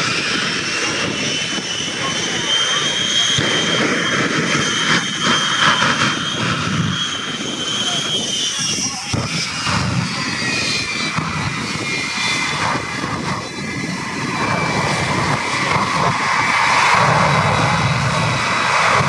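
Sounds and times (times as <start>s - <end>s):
airplane flying over: 0.0s - 19.0s.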